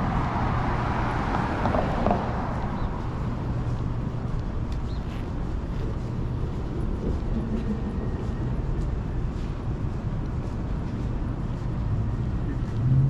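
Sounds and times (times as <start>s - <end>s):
low rumble of passing traffic: 0.0s - 13.0s.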